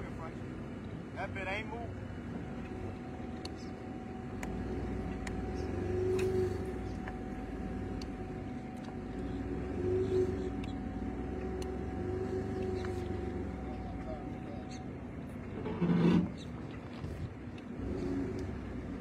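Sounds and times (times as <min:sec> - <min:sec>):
motor droning: 0:00.0 - 0:19.0
low rumble: 0:02.2 - 0:19.0.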